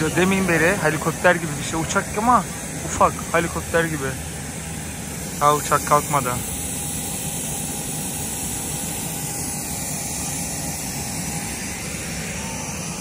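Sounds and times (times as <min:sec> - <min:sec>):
jet engines hissing: 0:00.0 - 0:13.0.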